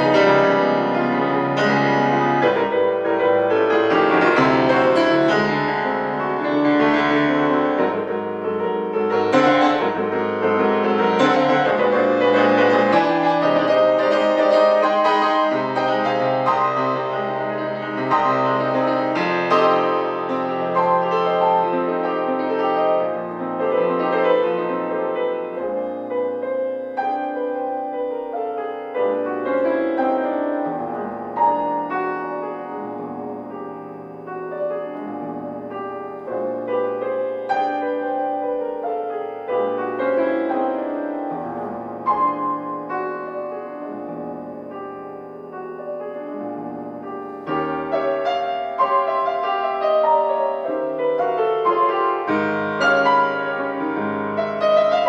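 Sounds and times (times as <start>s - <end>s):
grand piano playing classical music: 0.0s - 55.0s.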